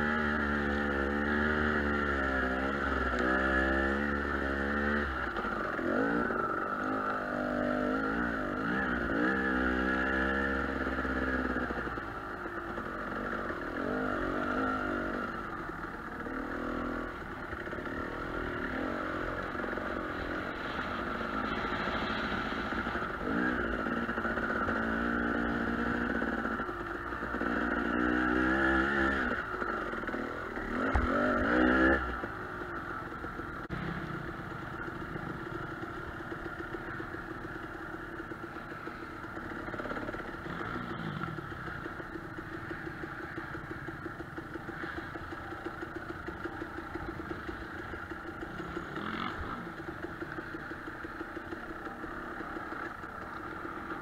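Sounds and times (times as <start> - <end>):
dirt bike engine revving: 0.0 - 33.0, 33.6 - 37.3, 38.2 - 54.0.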